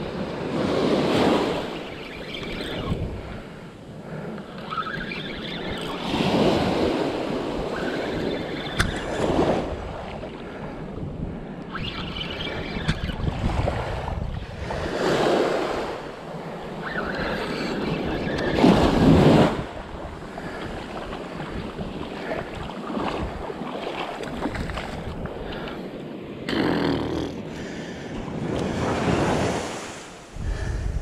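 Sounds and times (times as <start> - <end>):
wind buffeting microphone: 0.0 - 25.9, 27.5 - 31.0.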